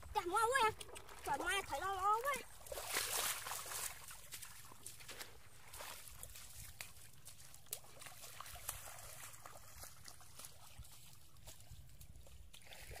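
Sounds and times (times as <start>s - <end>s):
small water splashes and drips: 0.0s - 13.0s.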